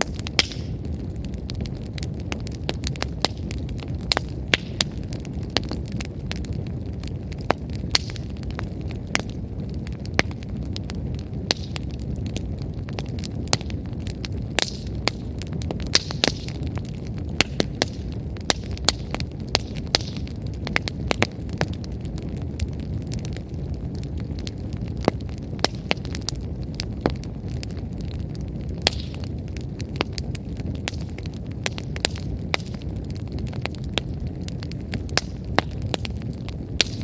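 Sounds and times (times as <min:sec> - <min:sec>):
campfire flame rumble: 0:00.0 - 0:37.0
firewood crackling and popping: 0:00.0 - 0:37.0.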